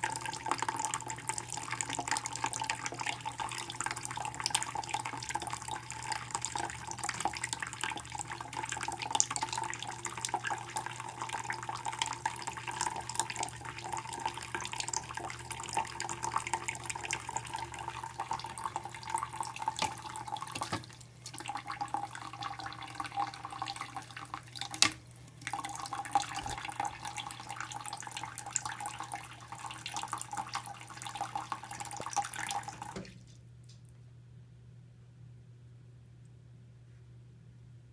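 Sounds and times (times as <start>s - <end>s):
tap water running into plastic dish: 0.0s - 33.8s.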